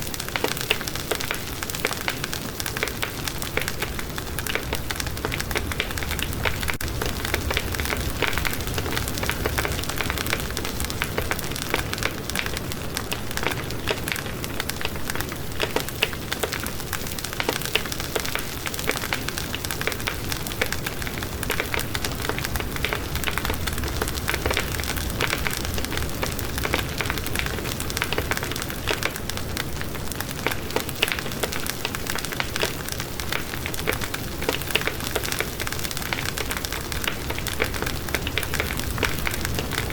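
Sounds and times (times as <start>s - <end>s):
wood fire crackling and popping: 0.0s - 39.9s
low rumble of flames: 0.1s - 39.9s.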